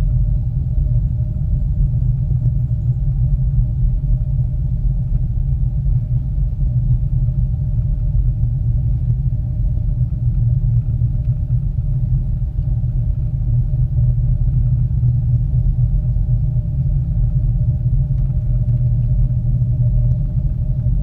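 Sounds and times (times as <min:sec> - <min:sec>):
faint even hum: 0:00.0 - 0:21.0
gondola cabin rumble: 0:00.0 - 0:21.0.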